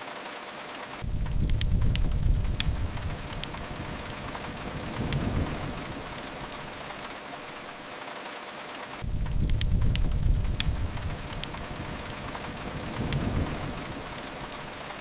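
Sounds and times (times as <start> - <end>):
rain on a window: 0.0 - 15.0
wood fire crackling: 0.0 - 15.0.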